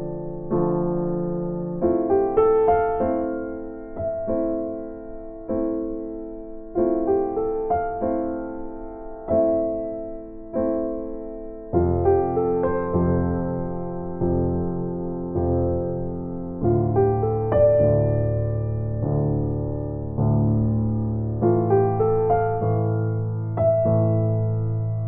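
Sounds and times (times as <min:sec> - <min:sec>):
gentle piano chords: 0:00.0 - 0:25.0.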